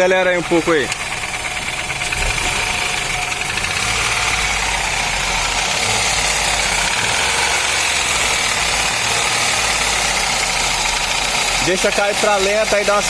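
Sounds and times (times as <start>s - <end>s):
abnormal internal engine noise: 0.0s - 13.0s
car engine running: 0.0s - 13.0s.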